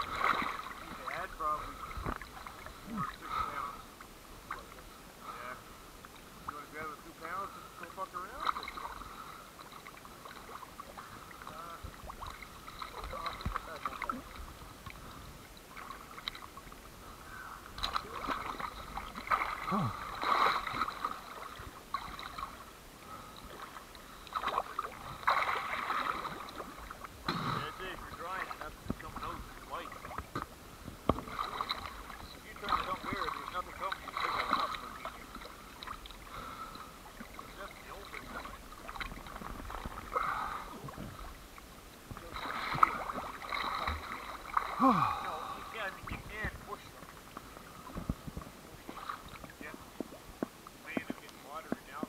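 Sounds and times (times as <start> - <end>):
water sloshing and splashing: 0.0 - 52.0.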